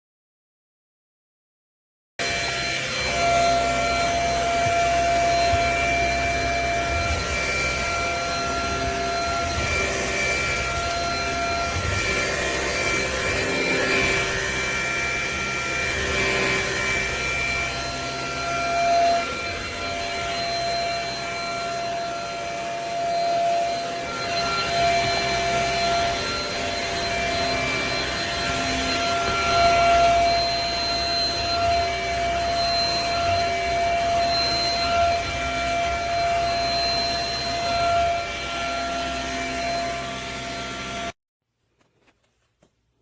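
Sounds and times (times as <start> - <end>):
stick vacuum running: 2.2 - 41.1.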